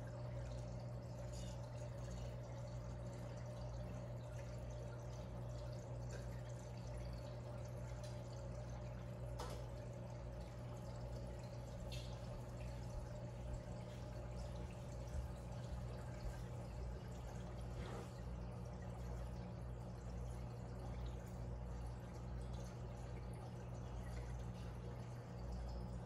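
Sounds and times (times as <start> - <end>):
aquarium pump hum: 0.0 - 26.0
water trickling and dripping: 0.0 - 26.0.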